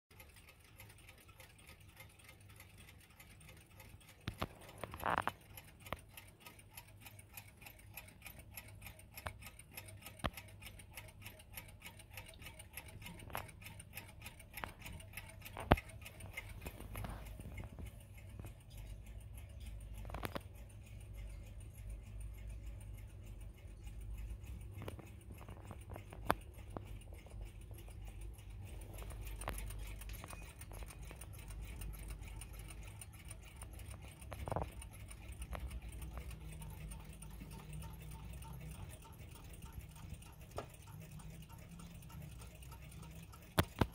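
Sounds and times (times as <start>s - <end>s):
clocks ticking: 0.1s - 43.9s.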